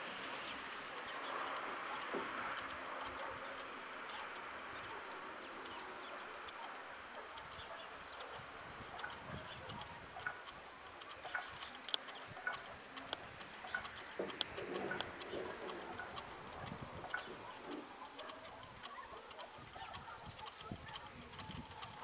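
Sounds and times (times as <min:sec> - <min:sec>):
whirligig clicking and tapping: 0:00.0 - 0:22.0.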